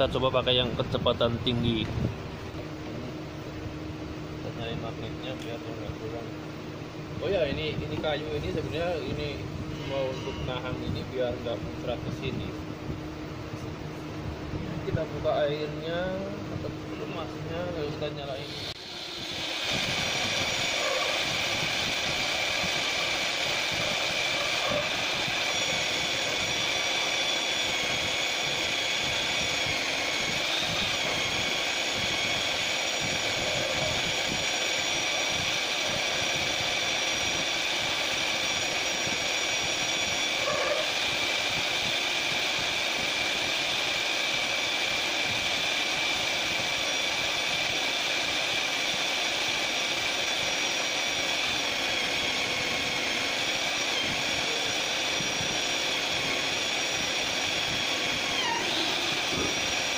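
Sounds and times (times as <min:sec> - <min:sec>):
magnetic drill cutting steel: 0:07.2 - 0:12.6, 0:14.9 - 0:59.9.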